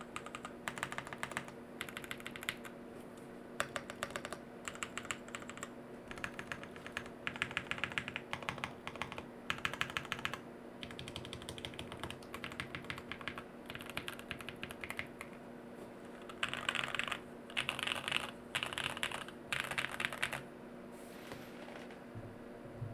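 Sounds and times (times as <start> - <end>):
mechanical keyboard typing: 0.0 - 2.7, 3.6 - 15.4, 16.2 - 20.4.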